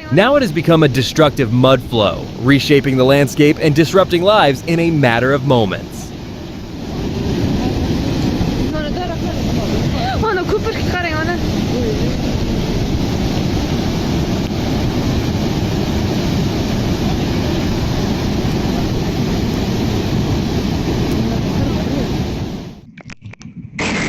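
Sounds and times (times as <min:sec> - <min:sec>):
mud flow rushing roar: 0:00.0 - 0:22.8.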